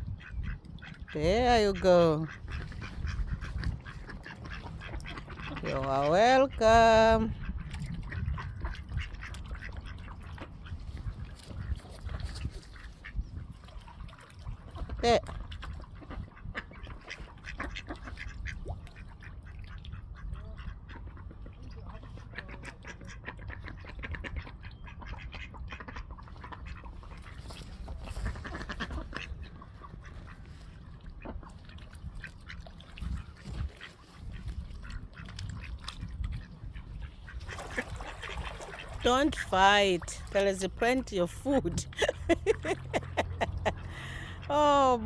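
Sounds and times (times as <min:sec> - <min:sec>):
ducks quacking: 0:00.0 - 0:13.2, 0:15.9 - 0:35.7, 0:36.4 - 0:45.0.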